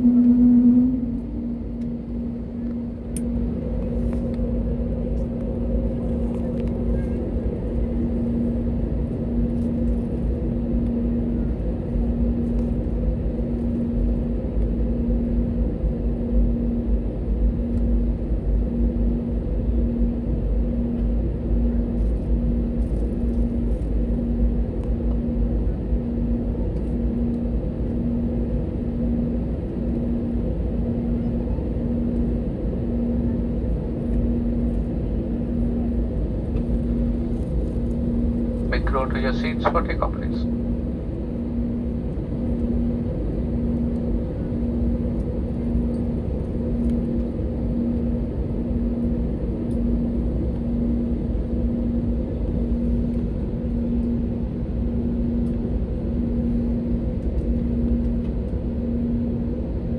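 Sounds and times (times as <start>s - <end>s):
jet cabin rumble with engine hum: 0.0s - 59.9s.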